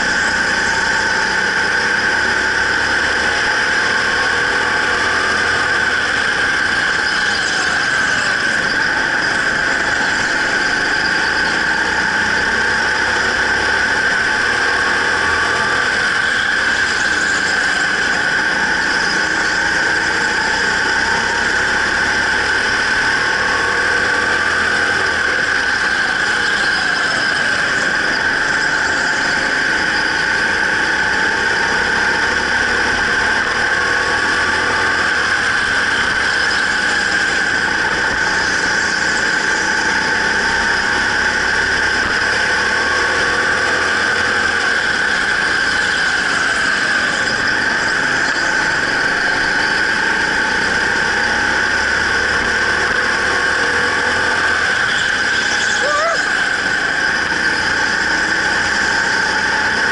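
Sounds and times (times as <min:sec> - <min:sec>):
go-kart motor: 0:00.0 - 0:59.9
high-pitched squeal: 0:00.0 - 0:59.9.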